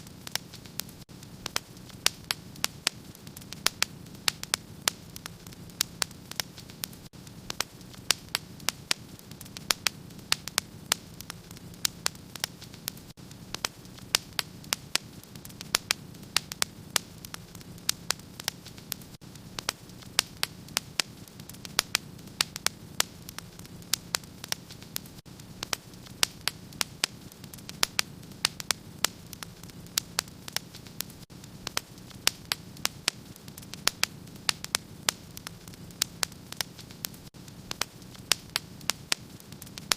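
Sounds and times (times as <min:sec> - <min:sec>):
low hiss of burning logs: 0:00.0 - 0:39.9
wood fire popping and snapping: 0:00.0 - 0:39.9.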